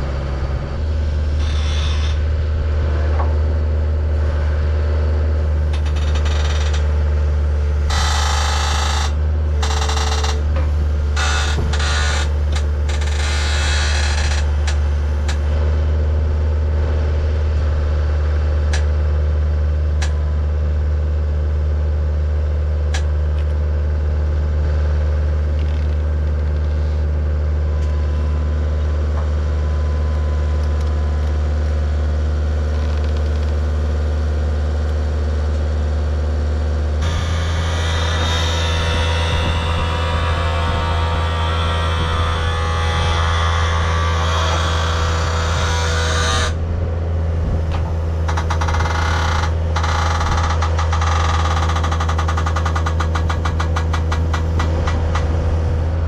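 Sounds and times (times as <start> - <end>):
skid steer engine droning: 0.0 - 56.0.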